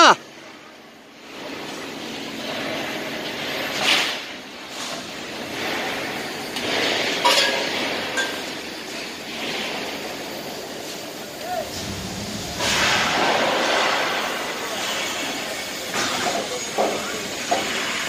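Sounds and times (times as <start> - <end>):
machinery noise: 0.0 - 18.0.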